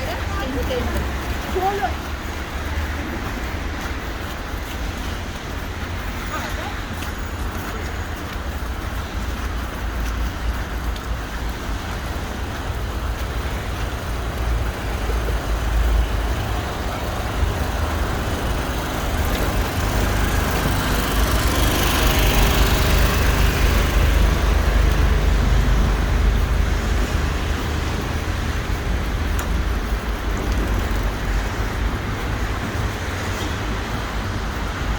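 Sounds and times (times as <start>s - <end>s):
passing vehicles rumble: 0.0s - 34.9s.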